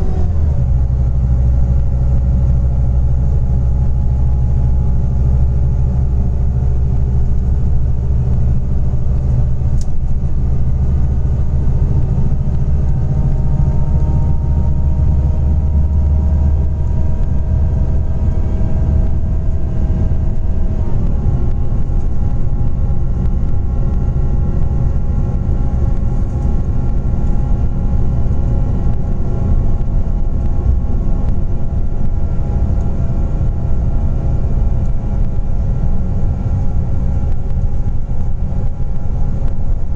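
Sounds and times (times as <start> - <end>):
coach engine rumble: 0.0 - 39.9
engine whining tones: 0.0 - 39.9.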